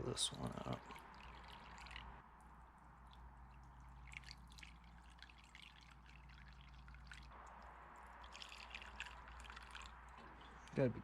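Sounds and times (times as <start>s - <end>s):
liquid trickling and dripping: 0.0s - 11.0s.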